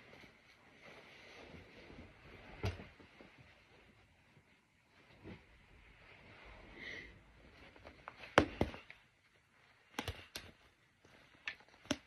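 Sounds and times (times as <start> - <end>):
fabric handling: 0.0 - 12.0.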